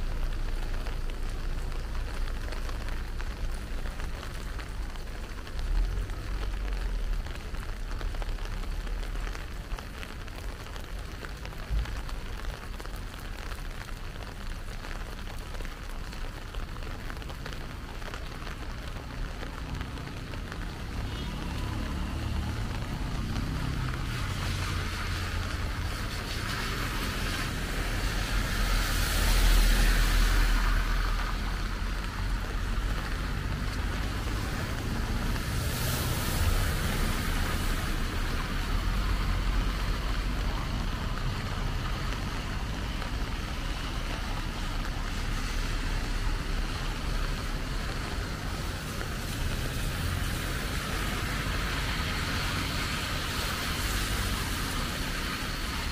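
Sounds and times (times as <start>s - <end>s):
car tyres hissing on wet road: 0.0s - 55.9s.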